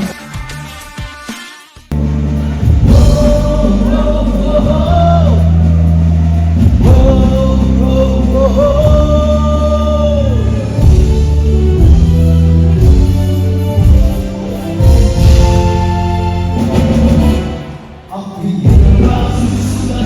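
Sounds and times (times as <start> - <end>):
band music: 0.0 - 20.0
bass line: 1.9 - 20.0.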